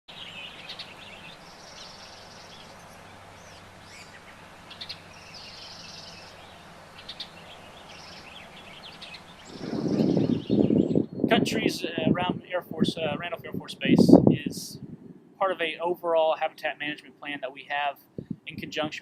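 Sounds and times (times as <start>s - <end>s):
songbirds chirping and trilling: 0.1s - 19.0s
steady low hum: 1.0s - 18.9s.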